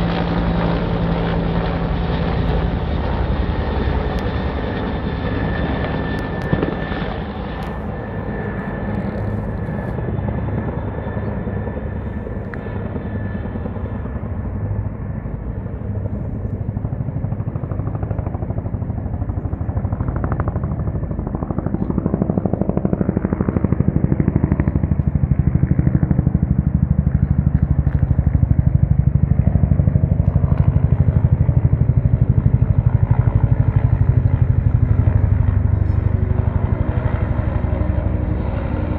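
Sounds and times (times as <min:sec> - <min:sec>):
helicopter rotor chop: 0:00.0 - 0:38.9.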